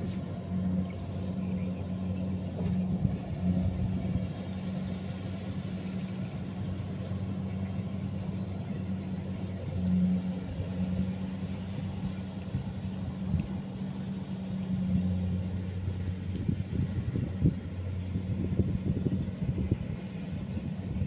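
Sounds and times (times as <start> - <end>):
combine harvester diesel engine: 0.0 - 21.0.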